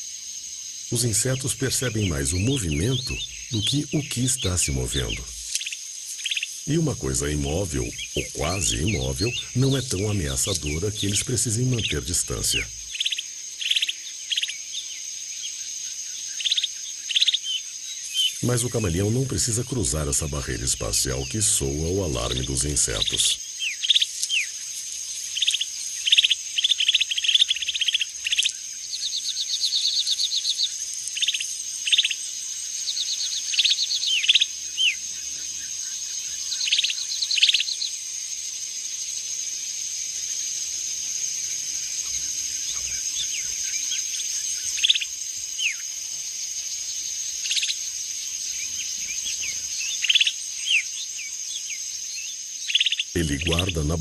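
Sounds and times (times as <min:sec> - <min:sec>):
high-pitched insect drone: 0:00.0 - 0:54.0
bird chirps and trills: 0:00.9 - 0:32.2, 0:32.8 - 0:38.0, 0:41.9 - 0:45.9, 0:46.8 - 0:54.0.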